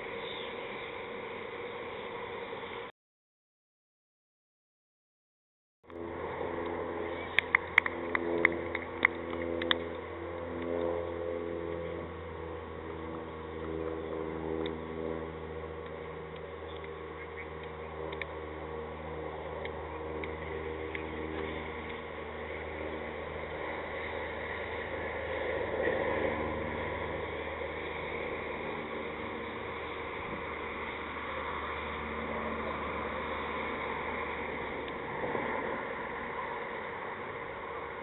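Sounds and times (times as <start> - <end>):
low hum: 0.0 - 2.9, 5.9 - 38.0.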